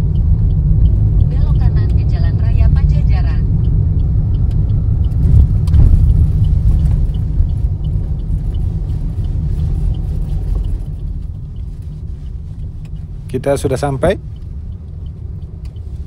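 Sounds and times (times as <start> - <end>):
car road noise rumble: 0.0 - 16.0
faint regular ticking: 0.0 - 16.0.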